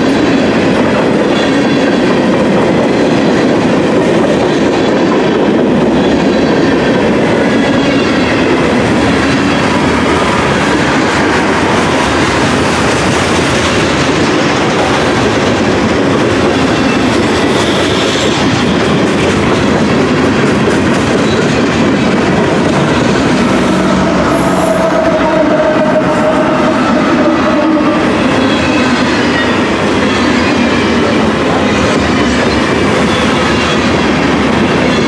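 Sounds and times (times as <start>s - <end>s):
diesel locomotive engine: 0.0s - 35.0s
freight train wheels rolling: 0.0s - 35.0s.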